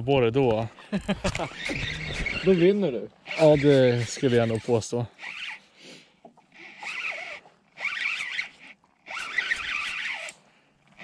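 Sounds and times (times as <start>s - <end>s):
spinning reel whirring buzz: 1.2s - 11.0s.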